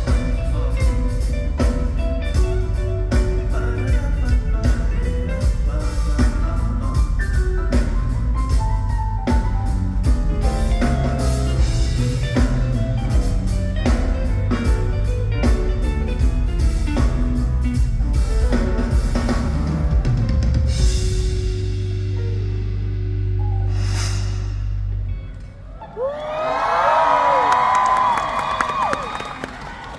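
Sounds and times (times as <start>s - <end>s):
drum kit steady beat: 0.0s - 24.4s
instrumental pop music: 0.0s - 25.0s.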